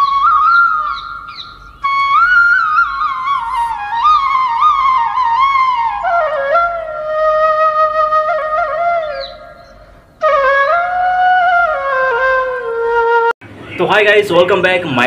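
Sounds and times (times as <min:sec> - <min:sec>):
solo flute melody: 0:00.0 - 0:13.4.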